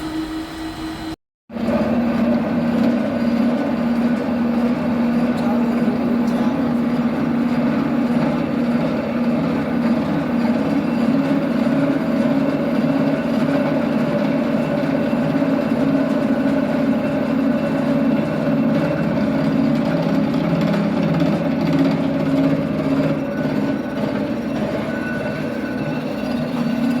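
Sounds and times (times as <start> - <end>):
drive whining: 0.0 - 27.0
milling machine humming: 0.0 - 27.0.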